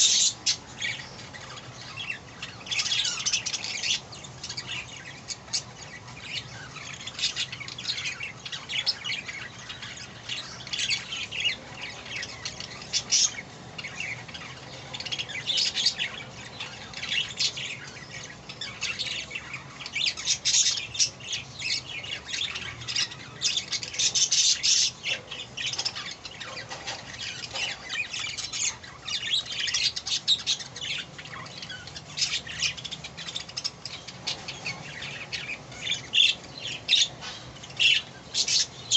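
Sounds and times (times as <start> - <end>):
budgerigar chicks squawking: 0.0 - 38.9.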